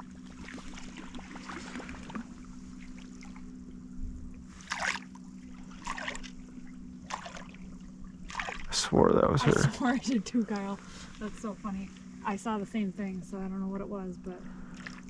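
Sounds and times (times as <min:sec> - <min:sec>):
steady low hum: 0:00.0 - 0:15.0
water splashing against boat: 0:00.0 - 0:15.0.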